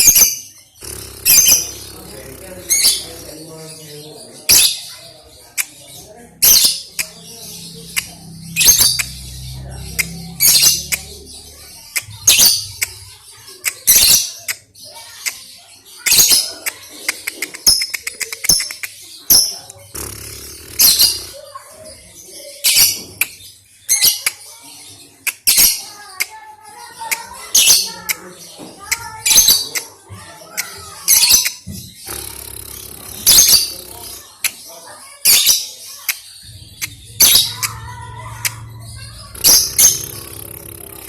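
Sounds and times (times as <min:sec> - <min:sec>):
bird chirping high-pitched: 0:00.0 - 0:41.0
bird clicking chatter: 0:00.8 - 0:03.4, 0:04.5 - 0:07.3, 0:07.9 - 0:21.6, 0:25.1 - 0:41.0.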